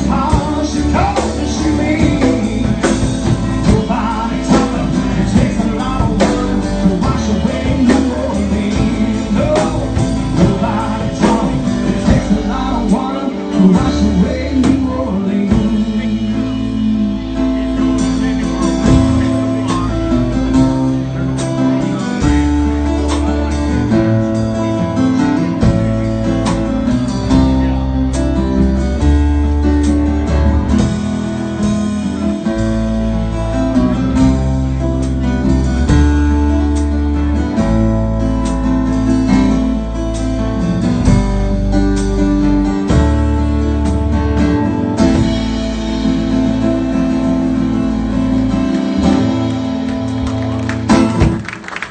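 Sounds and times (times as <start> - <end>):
bass guitar: 0.0 - 51.9
drums: 0.0 - 51.9
lead guitar bending: 0.0 - 51.9.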